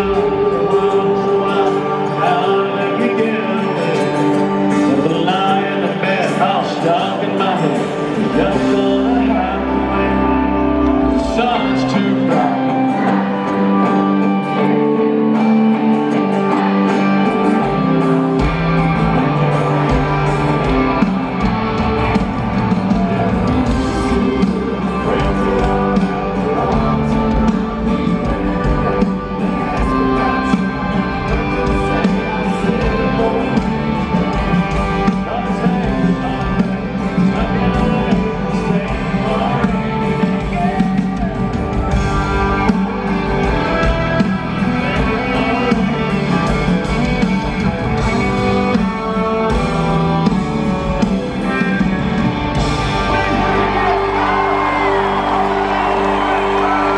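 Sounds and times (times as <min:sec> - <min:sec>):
man singing: 0:00.0 - 0:18.2, 0:19.0 - 0:56.9
live country band playing: 0:00.0 - 0:56.9.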